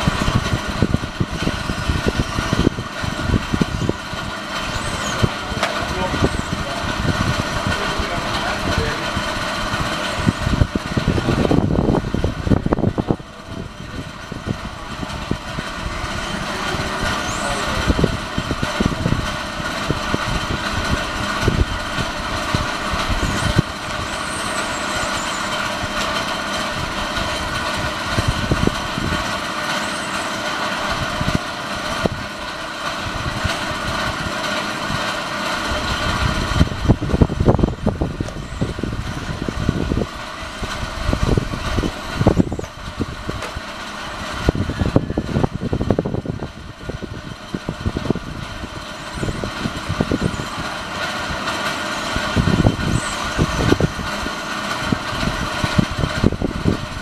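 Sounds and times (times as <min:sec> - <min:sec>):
low rumbling: 0:00.0 - 0:57.0
rc car motor running: 0:00.0 - 0:57.0
steady hum: 0:00.0 - 0:57.0.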